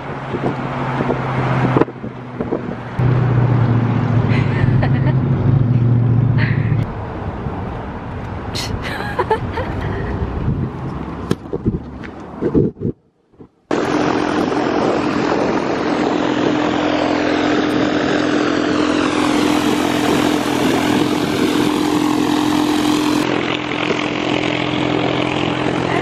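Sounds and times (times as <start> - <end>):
propeller aircraft engine droning: 0.0 - 12.8, 13.5 - 26.0.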